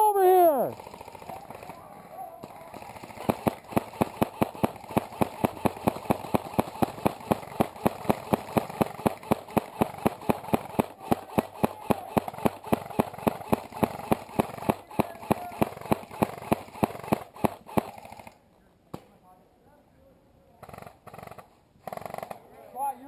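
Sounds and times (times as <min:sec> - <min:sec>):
airsoft rifle shots: 0:00.2 - 0:19.1.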